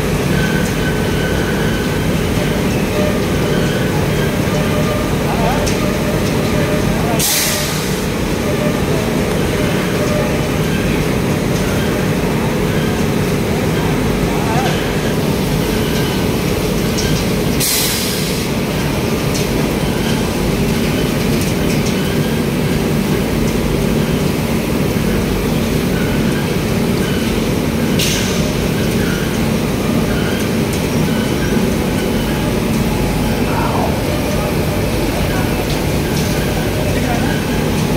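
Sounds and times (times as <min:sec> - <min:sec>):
industrial machinery rumble: 0:00.0 - 0:37.9.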